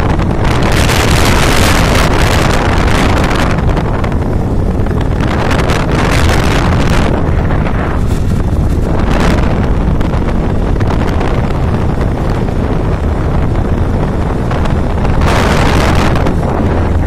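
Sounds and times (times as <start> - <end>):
rushing wind gusts: 0.0 - 17.0
wind buffeting microphone: 0.0 - 17.0.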